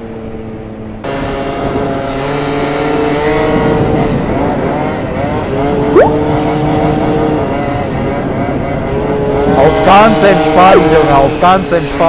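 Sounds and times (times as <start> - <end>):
scooter engines revving high: 0.0 - 12.0.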